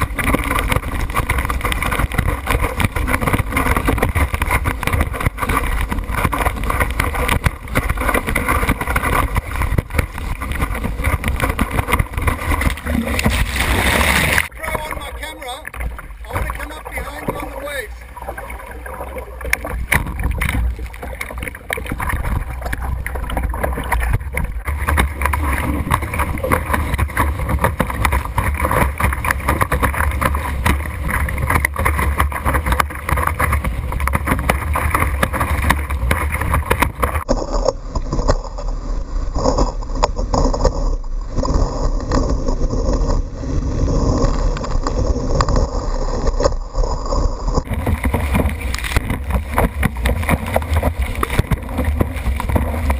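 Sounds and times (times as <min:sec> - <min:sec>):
water rushing and splashing: 0:00.0 - 0:52.9.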